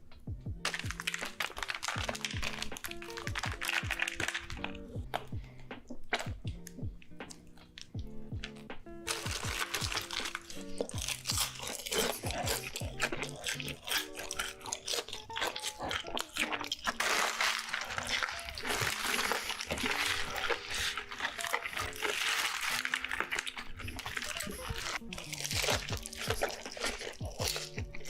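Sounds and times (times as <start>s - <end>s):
soft background music: 0.0s - 28.0s
crunchy bites and chewing: 0.6s - 28.0s.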